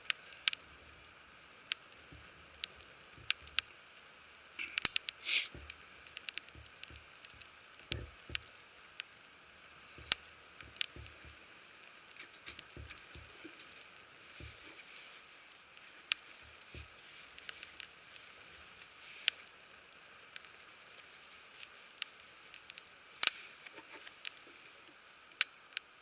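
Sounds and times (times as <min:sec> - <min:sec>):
faint steady hiss: 0:00.0 - 0:26.0
wood fire crackling: 0:00.0 - 0:26.0.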